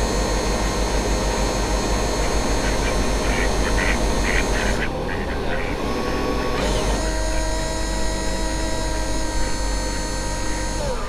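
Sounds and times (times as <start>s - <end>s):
model ship motors whining: 0.0s - 11.0s.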